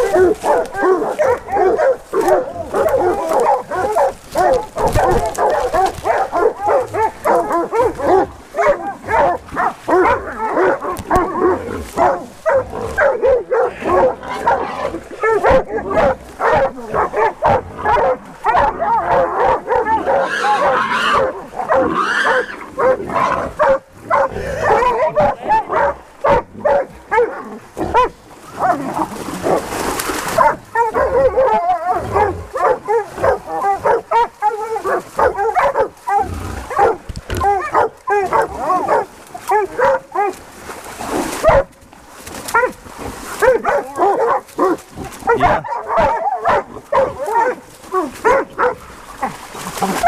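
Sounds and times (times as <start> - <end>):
hounds barking and bawling: 0.0 - 40.5, 41.3 - 41.8, 42.5 - 50.0.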